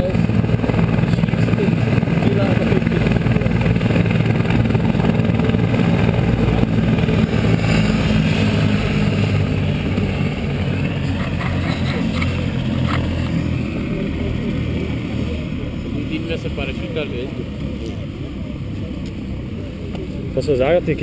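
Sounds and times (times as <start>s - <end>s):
helicopter rotor and turbine drone: 0.0s - 21.0s.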